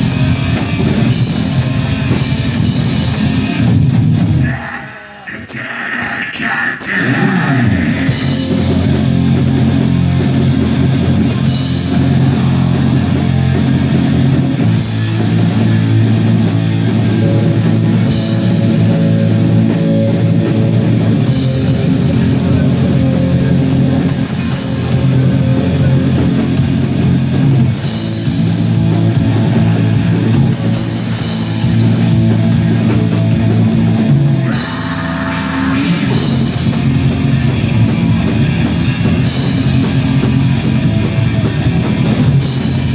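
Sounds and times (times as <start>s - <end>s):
black metal band playing live: 0.0s - 42.9s.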